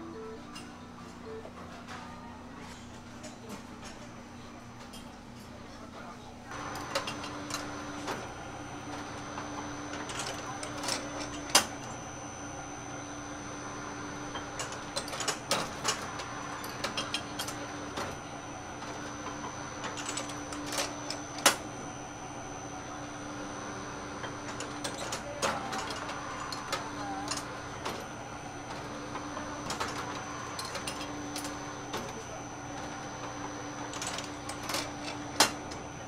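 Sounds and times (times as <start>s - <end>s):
machine hum: 6.5s - 36.0s.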